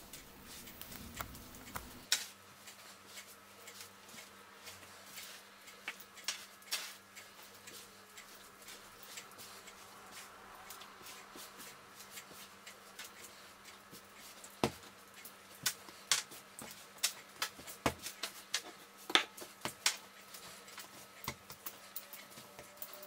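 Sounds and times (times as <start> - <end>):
hands kneading dough: 0.0 - 23.0.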